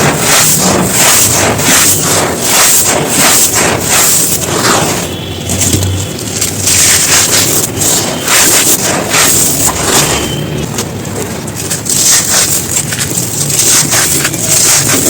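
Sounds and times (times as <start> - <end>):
dried chunks crunching: 0.0 - 15.0.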